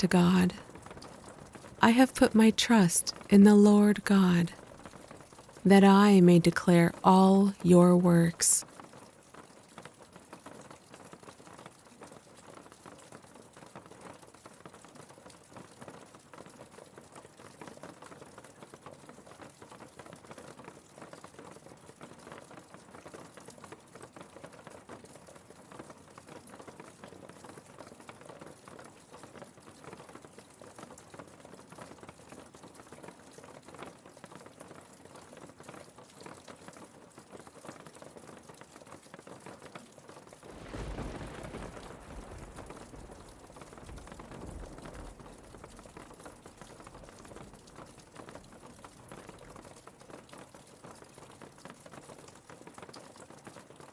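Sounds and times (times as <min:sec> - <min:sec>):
faint rain patter: 0:00.0 - 0:53.9.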